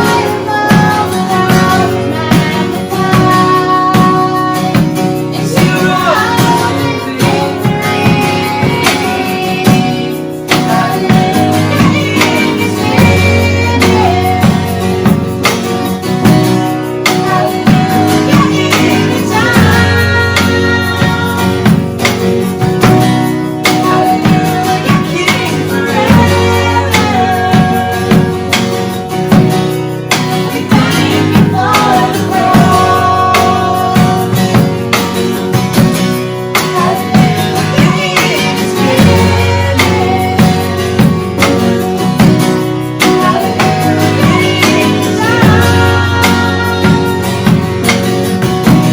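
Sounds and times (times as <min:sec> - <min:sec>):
strummed acoustic guitar: 0:00.0 - 0:48.9
worship band music: 0:00.0 - 0:48.9.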